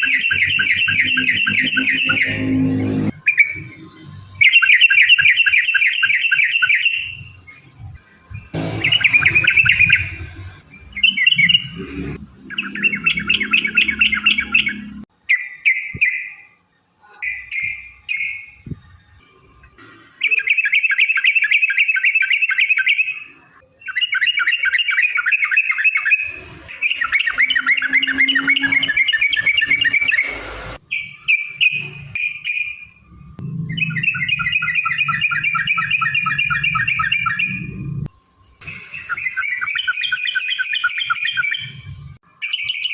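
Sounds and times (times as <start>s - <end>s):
bird singing rolling chatters: 0.0s - 16.6s, 20.1s - 33.0s, 33.6s - 37.8s, 38.6s - 42.9s.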